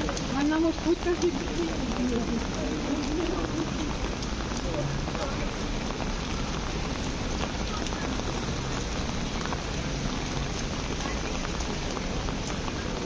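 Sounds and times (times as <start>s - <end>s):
rain splashing on pavement: 0.0s - 13.0s.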